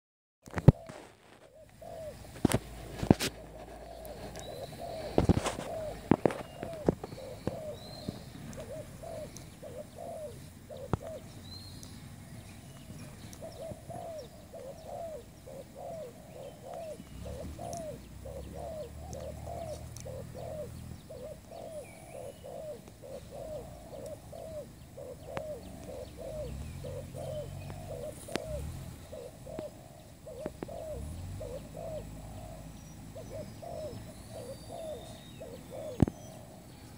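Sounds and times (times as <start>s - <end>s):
dove cooing: 0.5s - 36.9s.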